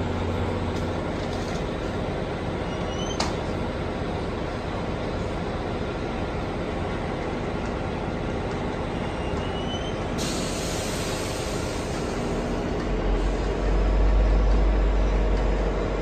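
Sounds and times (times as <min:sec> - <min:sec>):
train mechanical hum: 0:00.0 - 0:16.0.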